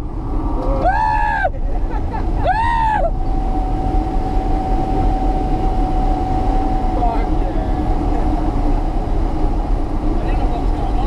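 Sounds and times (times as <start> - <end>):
passenger whooping: 0.0 - 9.5
car engine and road noise: 0.0 - 11.0.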